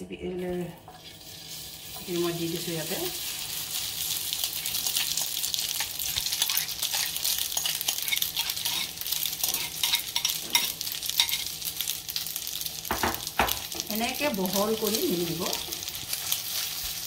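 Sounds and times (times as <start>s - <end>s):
food sizzling and crackling in oil: 0.4s - 17.0s.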